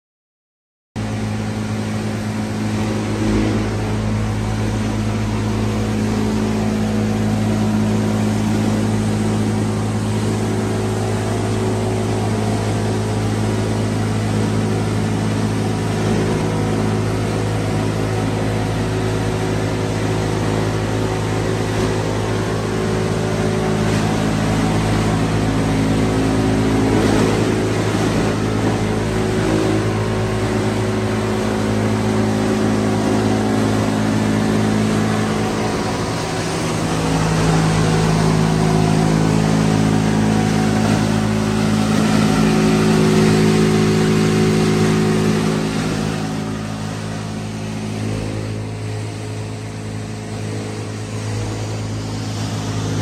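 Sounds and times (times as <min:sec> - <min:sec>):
machine humming: 0:01.0 - 0:53.0
rush of mechanical noise: 0:01.0 - 0:53.0.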